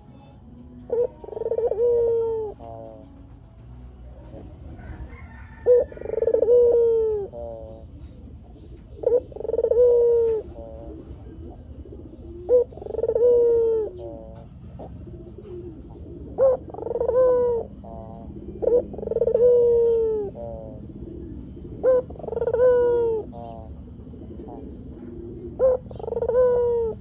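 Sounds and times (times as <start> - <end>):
dove cooing: 0.0 - 27.0.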